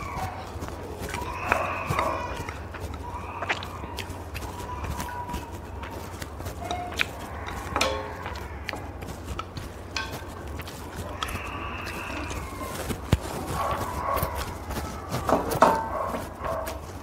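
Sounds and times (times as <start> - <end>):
chopsticks clicking against bowls: 0.0 - 17.0
noodles slurped and chewed: 0.0 - 17.0.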